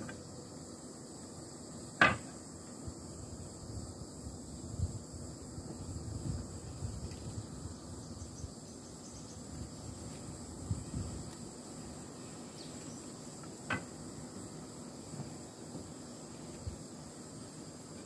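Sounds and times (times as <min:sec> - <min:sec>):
insect chirring: 0:00.0 - 0:18.0.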